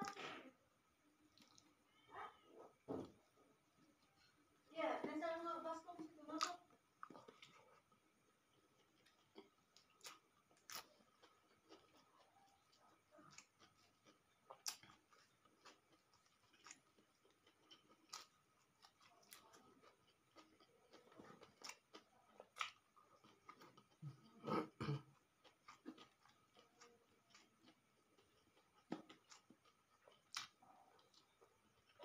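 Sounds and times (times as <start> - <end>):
man chewing food: 0.0 - 4.7, 6.4 - 32.0.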